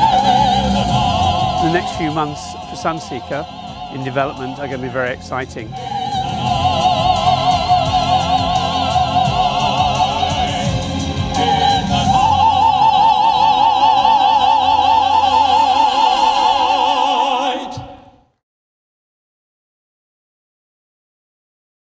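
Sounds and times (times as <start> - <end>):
vocal quartet singing operatically: 0.0 - 18.3.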